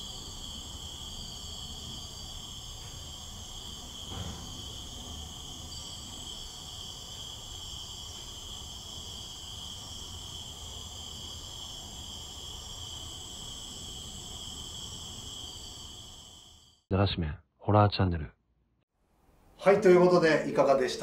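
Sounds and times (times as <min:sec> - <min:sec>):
insects chirring: 0:00.0 - 0:16.9, 0:19.6 - 0:21.0.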